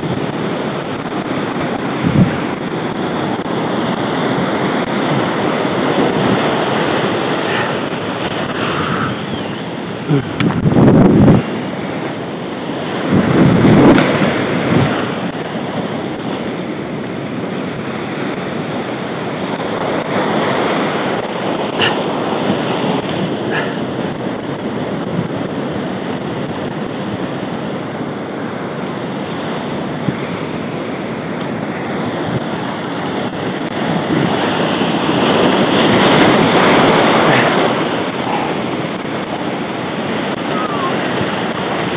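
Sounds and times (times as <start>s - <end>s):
surf breaking over rocks: 0.0s - 41.9s
wind buffeting microphone: 0.0s - 41.9s.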